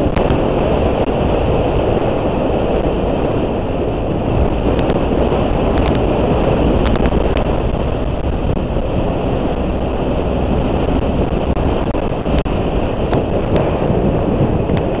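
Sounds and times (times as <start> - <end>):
motorcycle engine drone: 0.0 - 15.0
wind rush on microphone: 0.0 - 15.0.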